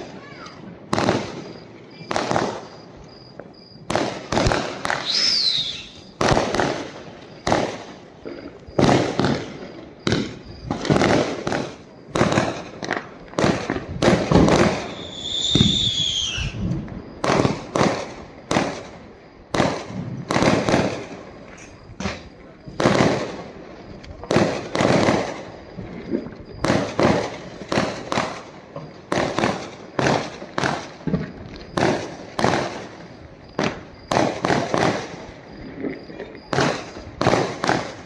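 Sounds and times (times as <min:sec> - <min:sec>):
firecrackers banging: 0:00.0 - 0:38.0
whistling firework: 0:00.0 - 0:38.0.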